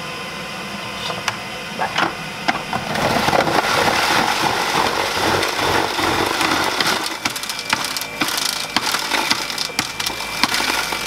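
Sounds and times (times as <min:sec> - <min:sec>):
juicer grinding: 0:01.8 - 0:11.0.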